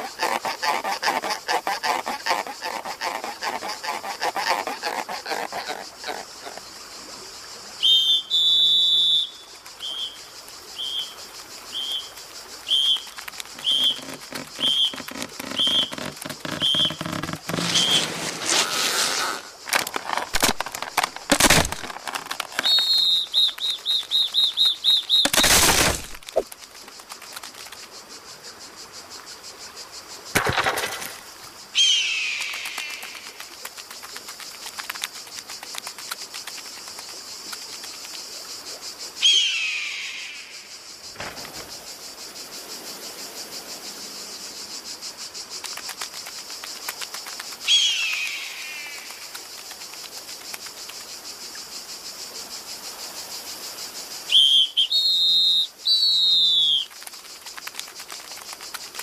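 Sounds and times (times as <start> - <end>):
high insect chirring: 0.0 - 59.0.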